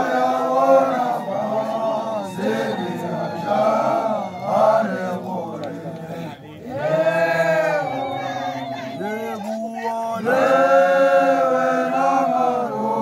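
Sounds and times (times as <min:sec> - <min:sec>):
young men chanting in unison: 0:00.0 - 0:13.0.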